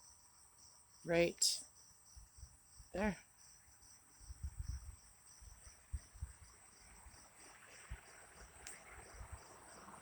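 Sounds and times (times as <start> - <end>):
insects chirping in pulsing trill: 0.0 - 10.0.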